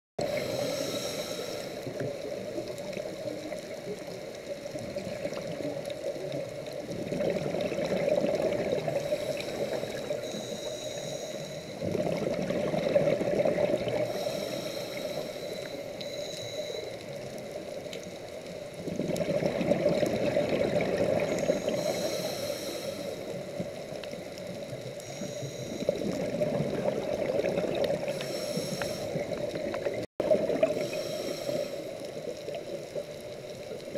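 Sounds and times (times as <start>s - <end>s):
exhaled bubbles gurgling: 0.2s - 10.6s, 11.7s - 15.7s, 17.1s - 33.9s
steady underwater rush: 0.2s - 33.9s.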